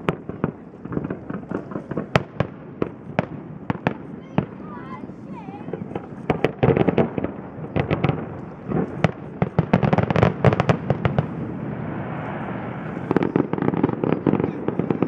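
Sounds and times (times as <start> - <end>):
firework bangs and crackles: 0.0 - 15.0.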